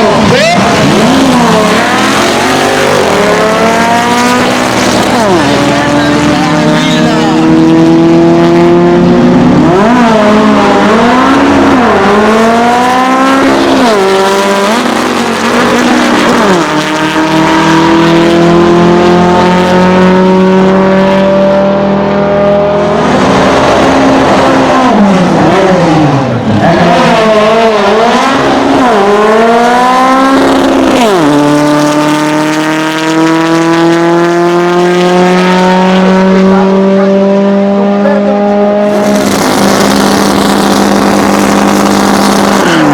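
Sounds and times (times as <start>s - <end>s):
racing engine revving hard: 0.0s - 42.9s.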